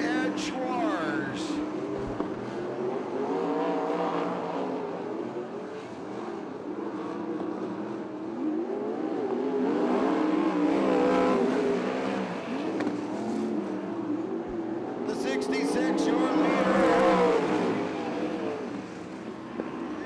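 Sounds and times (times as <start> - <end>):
racing car engines: 0.0 - 20.0.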